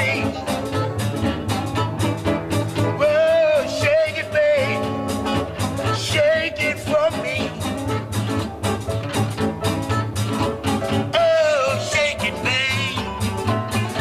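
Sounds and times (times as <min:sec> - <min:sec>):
bass: 0:00.0 - 0:14.0
steady drum beat: 0:00.0 - 0:14.0
strummed guitar: 0:00.0 - 0:14.0
wailing lead guitar: 0:00.0 - 0:14.0.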